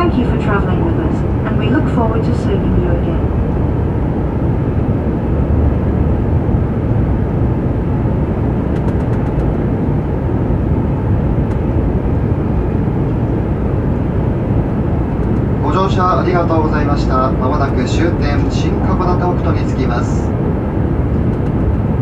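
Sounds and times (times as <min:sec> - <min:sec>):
train rumble inside cabin: 0:00.0 - 0:22.0.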